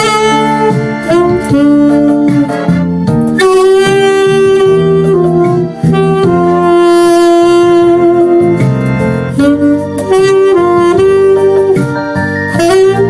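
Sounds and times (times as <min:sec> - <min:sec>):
alto saxophone melody: 0:00.0 - 0:13.0
backing accompaniment: 0:00.0 - 0:13.0.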